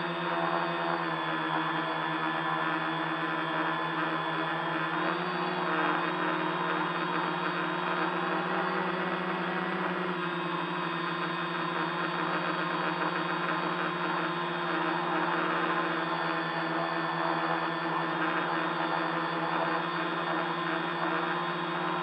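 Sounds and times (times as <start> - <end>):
drone propellers whirring: 0.0 - 22.0.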